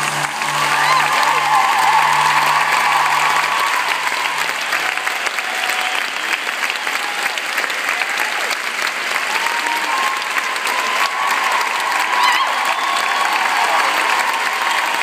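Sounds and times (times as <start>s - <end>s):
large audience applauding: 0.0s - 15.0s.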